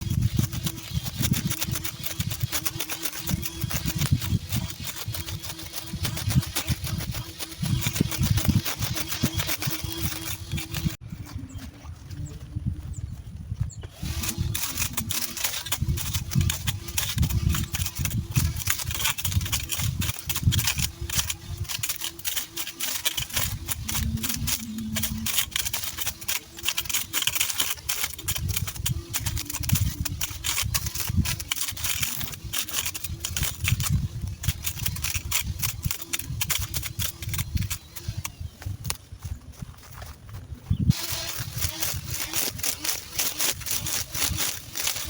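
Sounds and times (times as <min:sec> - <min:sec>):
electric lawn mower: 0:00.0 - 0:11.6, 0:13.8 - 0:39.9, 0:40.7 - 0:45.0
weeds snapping and crackling: 0:00.0 - 0:12.4, 0:13.8 - 0:45.0.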